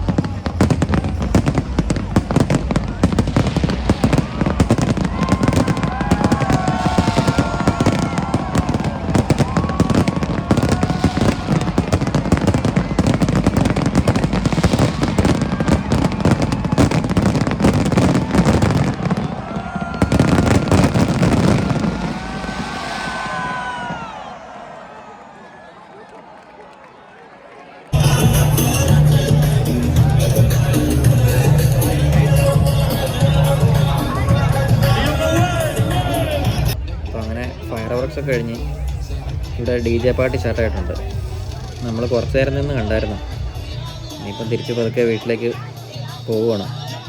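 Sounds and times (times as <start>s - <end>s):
fireworks bangs and crackles: 0.0s - 24.7s, 28.0s - 47.0s.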